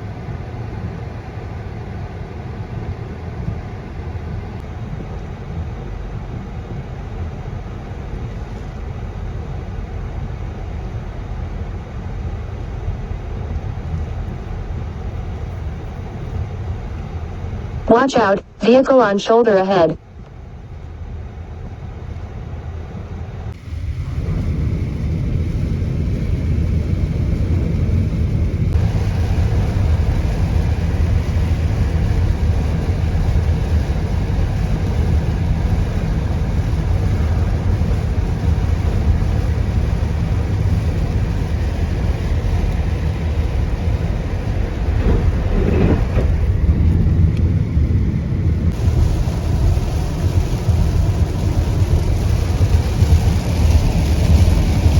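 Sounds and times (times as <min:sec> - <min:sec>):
car engine and tyres rumbling: 0:00.0 - 0:17.8, 0:20.0 - 0:54.9.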